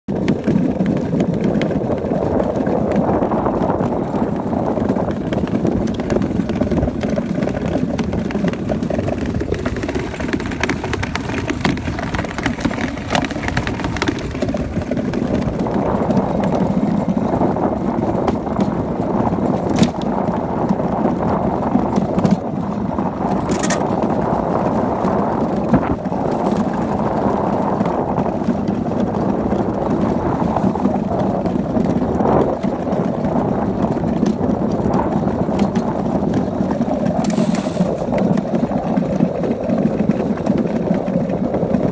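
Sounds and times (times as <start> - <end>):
steel runners rumbling over ice: 0.1 - 41.9.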